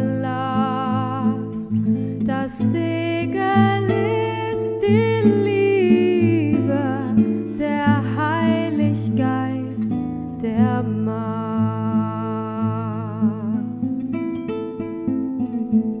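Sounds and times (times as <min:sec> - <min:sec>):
woman singing a slow hymn: 0:00.0 - 0:14.2
plucked classical guitar: 0:00.0 - 0:16.0.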